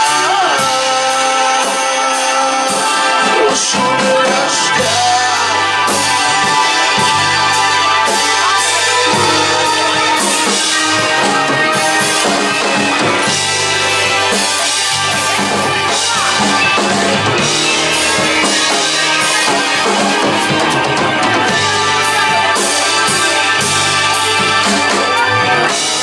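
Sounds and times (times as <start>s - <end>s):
instrumental rock music: 0.0s - 26.0s
drum kit beat: 3.8s - 26.0s.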